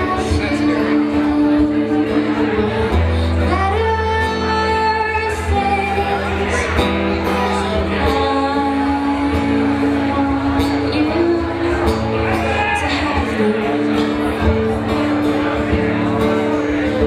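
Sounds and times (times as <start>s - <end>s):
woman singing: 0.0s - 6.8s, 7.5s - 14.4s
acoustic guitar strumming: 0.0s - 17.0s.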